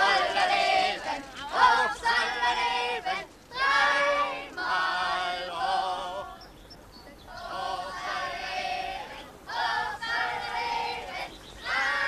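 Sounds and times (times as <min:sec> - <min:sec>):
group singing: 0:00.0 - 0:06.5, 0:07.3 - 0:12.0.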